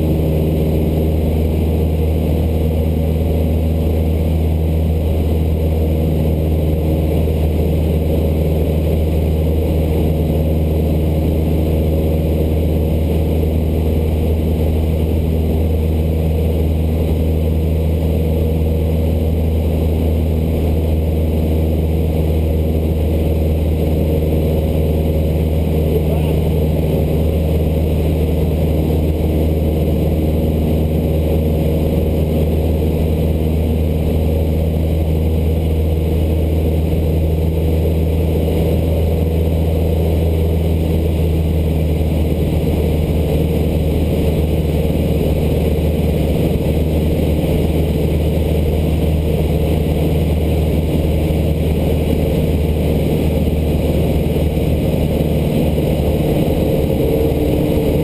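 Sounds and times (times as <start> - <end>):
plane engine and propeller droning: 0.0 - 58.0.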